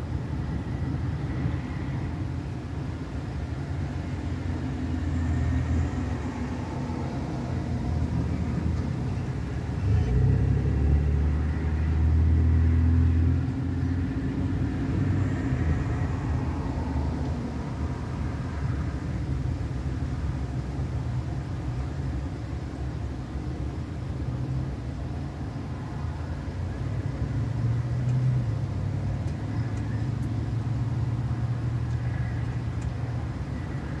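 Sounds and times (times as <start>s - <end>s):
motor vehicle rumble: 0.0s - 34.0s.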